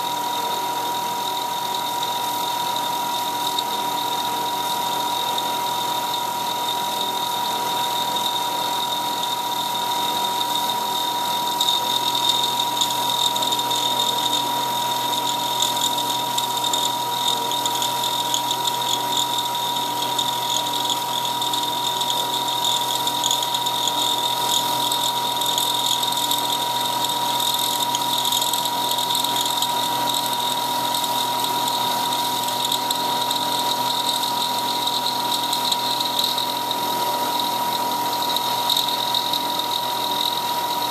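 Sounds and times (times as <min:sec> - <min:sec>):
cutter cutting metal: 0:00.0 - 0:40.9.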